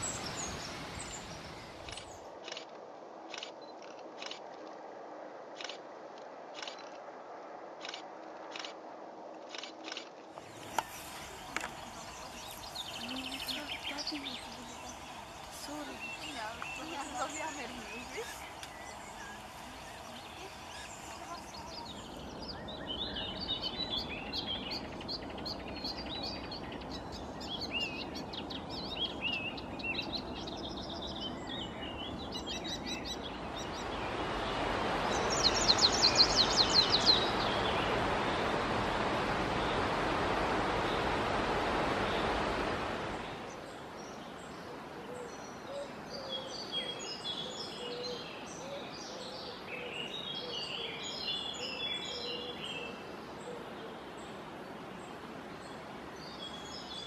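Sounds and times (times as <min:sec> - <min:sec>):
songbirds chirping: 0:00.0 - 0:04.3, 0:09.9 - 0:57.0
steady rushing noise: 0:00.0 - 0:45.7.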